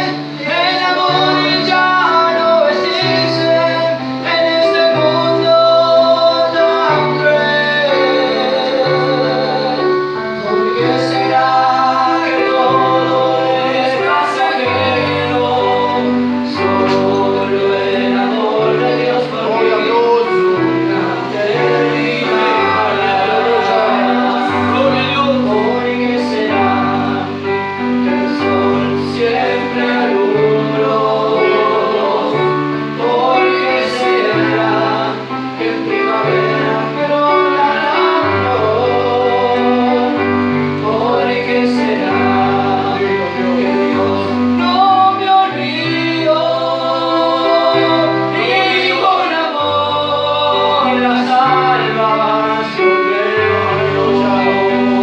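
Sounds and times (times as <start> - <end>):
electronic keyboard bass notes: 0.0 - 55.0
men singing a hymn: 0.0 - 55.0.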